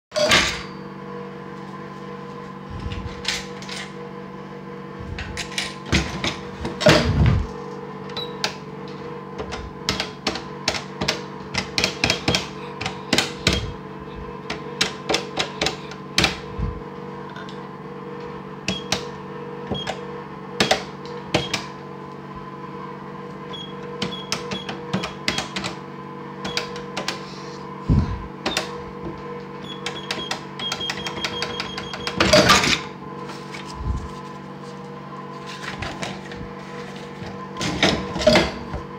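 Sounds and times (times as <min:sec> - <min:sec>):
steady hum: 0:00.3 - 0:20.4, 0:26.4 - 0:38.9.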